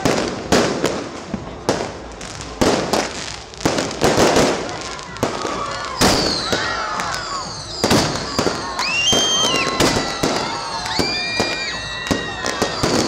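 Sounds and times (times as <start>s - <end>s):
fireworks bangs: 0.0s - 13.0s
fireworks whistling: 0.0s - 13.0s.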